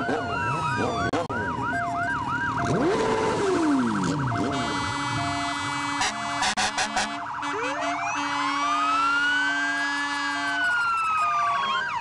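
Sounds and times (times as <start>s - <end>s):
fire engine sirens yelping: 0.0s - 12.0s
siren blaring: 0.0s - 12.0s.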